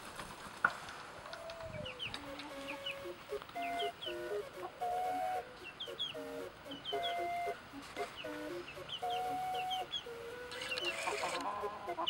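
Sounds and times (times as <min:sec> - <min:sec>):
hens clucking and calling: 0:01.2 - 0:12.0.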